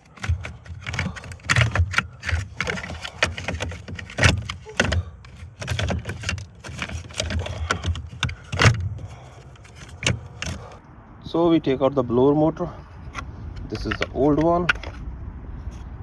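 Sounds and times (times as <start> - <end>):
plastic clicks knocks and scraping: 0.0 - 10.8, 12.9 - 15.0.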